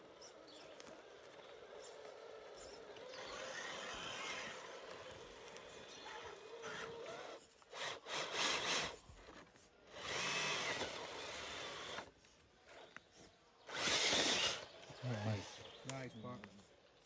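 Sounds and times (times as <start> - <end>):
rc truck motor whirring: 0.0 - 15.8.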